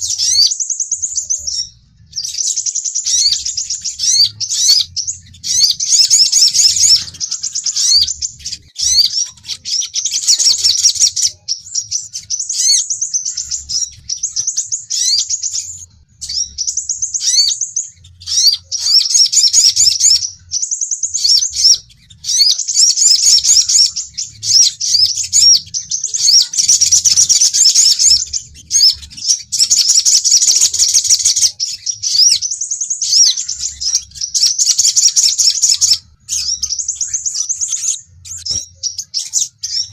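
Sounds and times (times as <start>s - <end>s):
sunbirds chirping and trilling: 0.0s - 39.9s.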